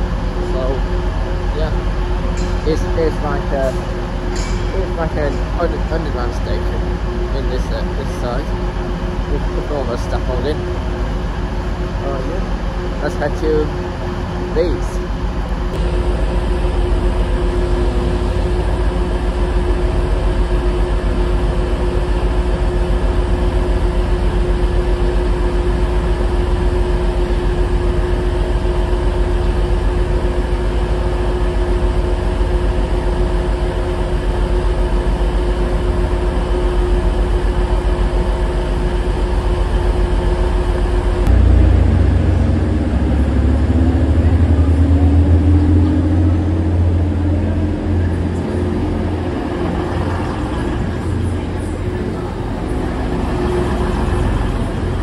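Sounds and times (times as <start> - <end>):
train engines idling: 0.0 - 55.0
train rumbling into platform: 0.0 - 55.0.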